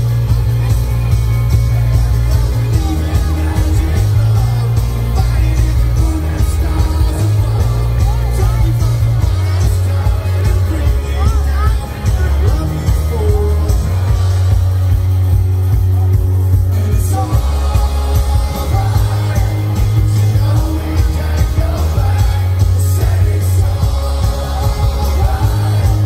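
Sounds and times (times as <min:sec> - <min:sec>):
drums: 0:00.0 - 0:26.0
electric guitars: 0:00.0 - 0:26.0
heavy bass: 0:00.0 - 0:26.0
person singing lead vocal: 0:01.8 - 0:15.4, 0:16.6 - 0:26.0.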